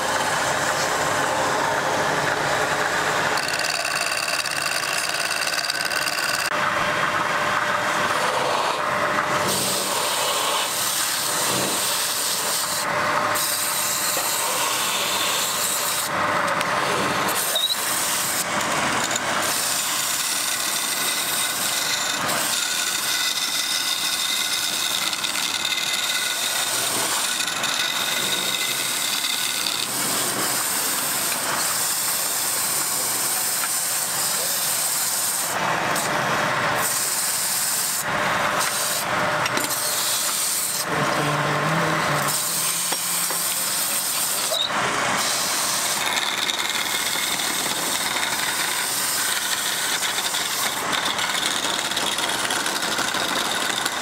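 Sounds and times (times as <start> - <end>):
lathe tool scraping wood: 0.0 - 54.0.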